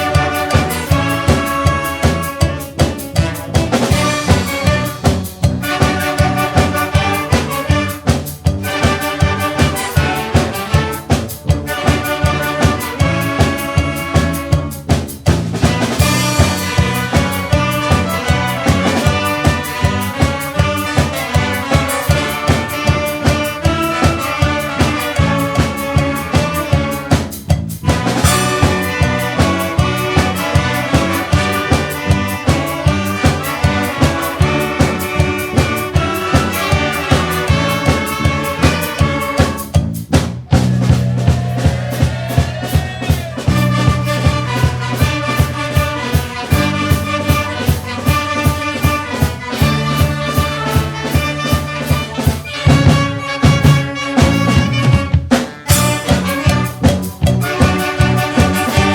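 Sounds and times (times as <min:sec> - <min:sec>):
lively brass music with beat: 0:00.0 - 0:58.9.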